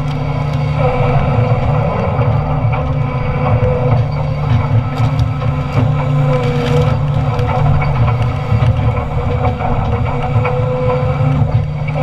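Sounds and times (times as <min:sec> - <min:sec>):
excavator diesel engine running: 0:00.0 - 0:12.0
faint timber cracking: 0:00.0 - 0:12.0
hydraulic whine: 0:00.0 - 0:12.0.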